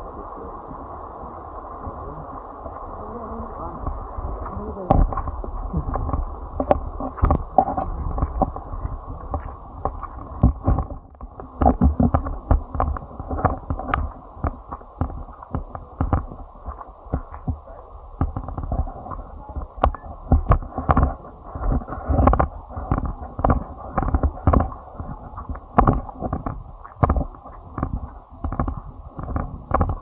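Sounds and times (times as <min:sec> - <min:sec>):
low rumble: 0:00.0 - 0:30.0
muffled thumps and knocks: 0:03.8 - 0:30.0.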